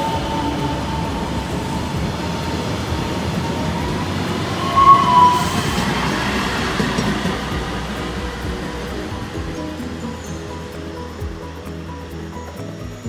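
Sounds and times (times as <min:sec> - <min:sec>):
high-pitched tone: 0:00.0 - 0:13.0
train wheels rumbling on rail: 0:00.0 - 0:13.0.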